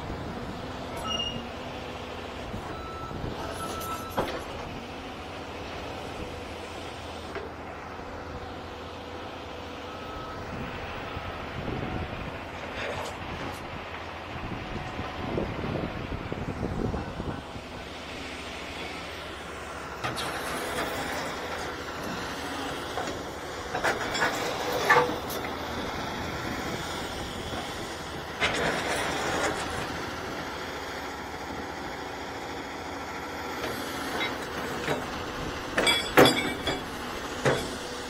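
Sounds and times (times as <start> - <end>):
diesel excavator engine running: 0.0 - 38.0.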